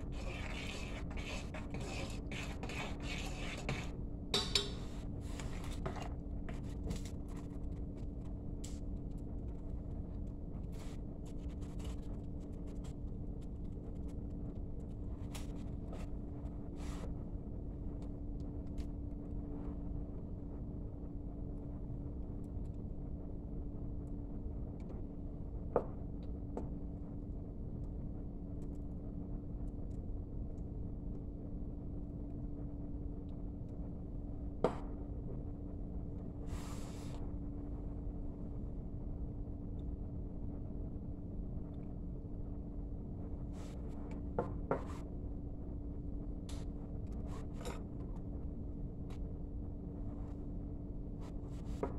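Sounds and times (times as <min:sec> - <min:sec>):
low hum with held tone: 0:00.0 - 0:51.9.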